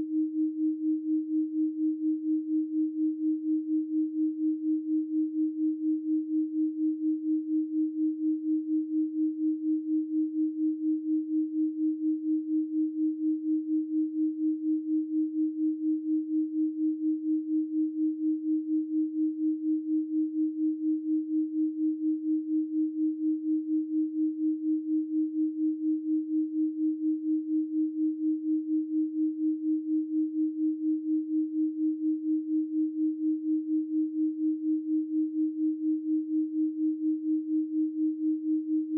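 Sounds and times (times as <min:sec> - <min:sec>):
pulsing sine tone: 0:00.0 - 0:38.9.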